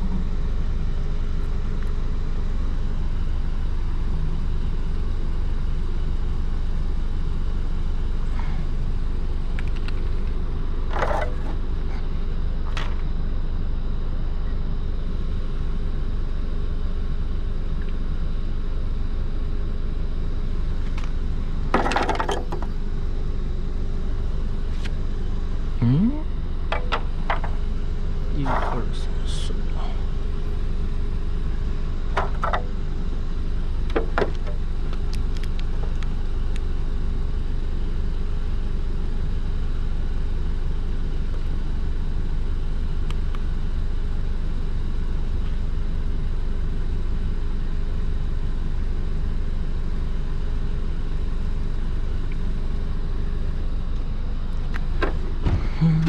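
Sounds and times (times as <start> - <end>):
faint hum: 0.0 - 56.0
steady low rumble: 0.0 - 56.0.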